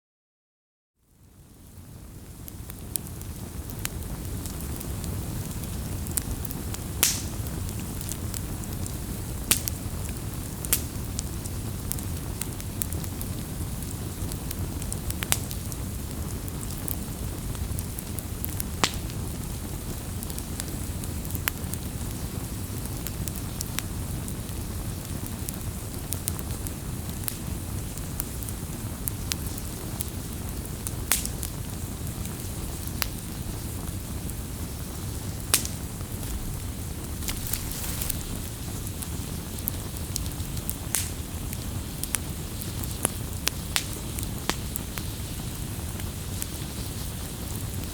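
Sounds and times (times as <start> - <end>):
campfire flames rumbling: 1.2 - 47.9
fire crackling and popping: 1.2 - 47.9.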